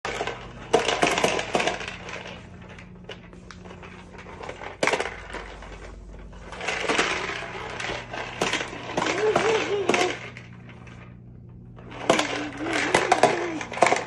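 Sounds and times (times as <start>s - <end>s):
plastic vacuum cleaner clattering: 0.1s - 5.8s, 6.5s - 10.8s, 11.8s - 14.0s
faint steady hum: 0.1s - 14.0s.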